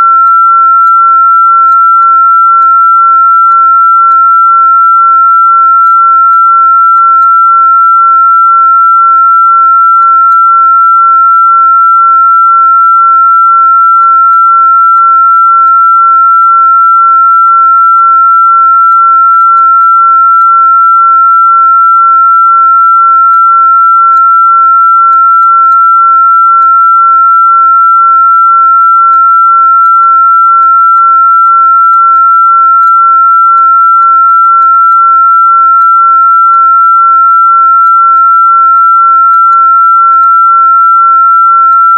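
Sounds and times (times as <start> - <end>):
high-pitched sine tone: 0.0 - 41.9.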